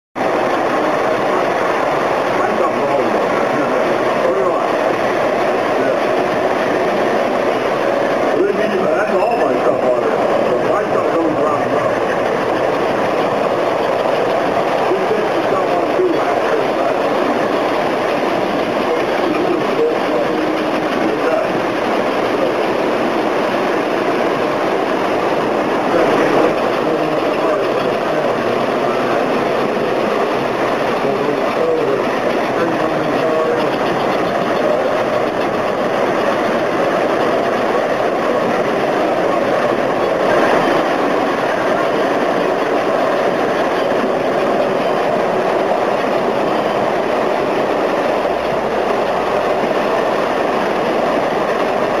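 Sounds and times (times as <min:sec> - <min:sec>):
model locomotive motors: 0:00.2 - 0:52.0
model train wheels on rails: 0:00.2 - 0:52.0.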